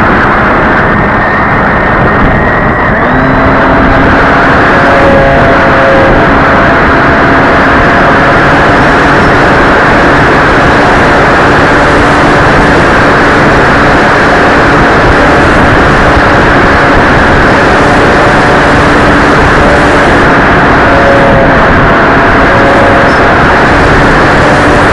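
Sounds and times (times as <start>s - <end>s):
model plane motor hum: 0.0s - 24.9s
wind buffeting microphone: 0.0s - 24.9s.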